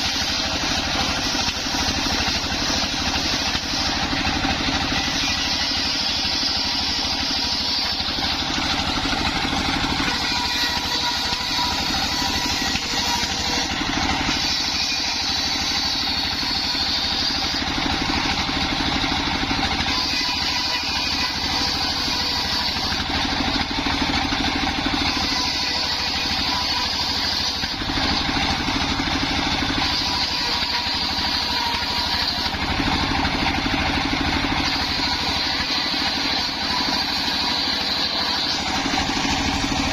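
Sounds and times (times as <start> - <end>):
high saw whine: 0.0 - 39.9
small engine running: 0.0 - 39.9.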